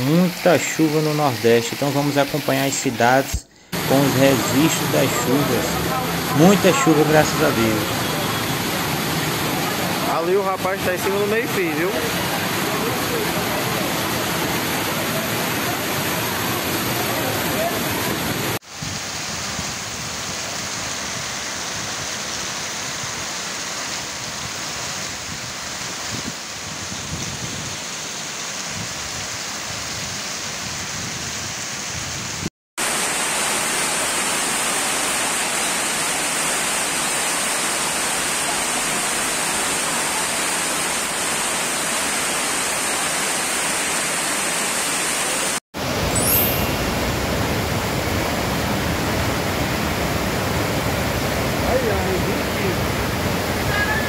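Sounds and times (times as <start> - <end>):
running water: 0.0 - 31.8, 32.8 - 54.0
heavy rain falling: 0.0 - 46.1, 46.8 - 54.0.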